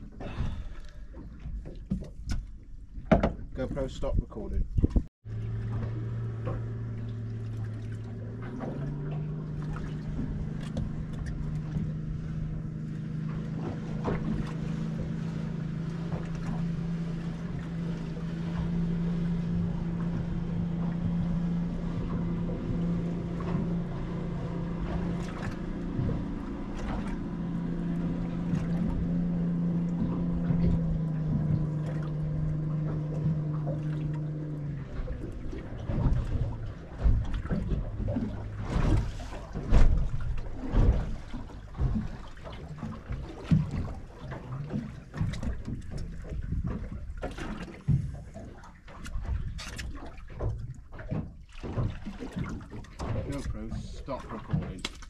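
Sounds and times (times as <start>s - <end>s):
outboard boat engine idling: 0.0s - 55.0s.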